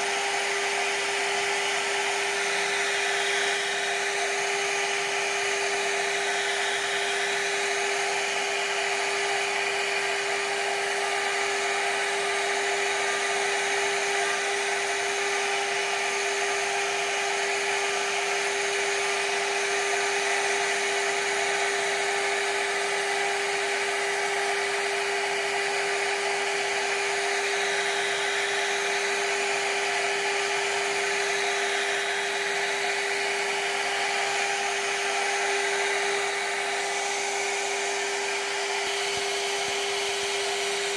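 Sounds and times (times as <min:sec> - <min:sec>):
router spindle cutting wood: 0:00.0 - 0:40.9.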